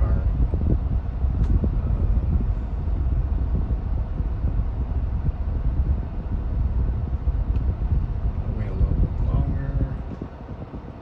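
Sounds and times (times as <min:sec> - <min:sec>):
air conditioning blower hiss: 0:00.0 - 0:11.0
car engine idling rumble: 0:00.0 - 0:11.0.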